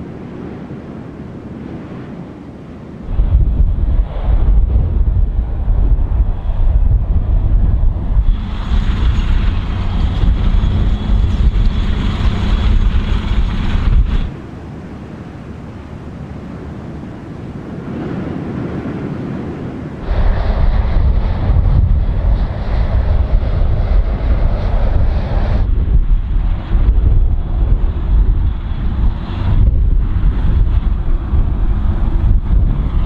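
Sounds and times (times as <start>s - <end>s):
wind buffeting microphone: 0.0s - 33.0s
heavy low rumble: 3.1s - 16.7s, 20.0s - 33.0s.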